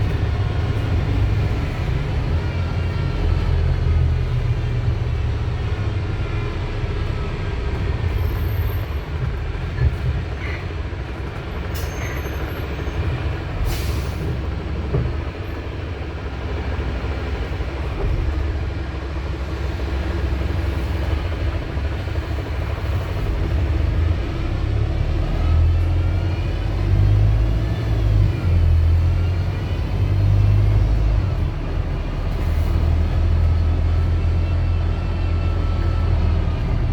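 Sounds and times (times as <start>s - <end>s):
bus diesel engine rumbling: 0.0s - 36.9s.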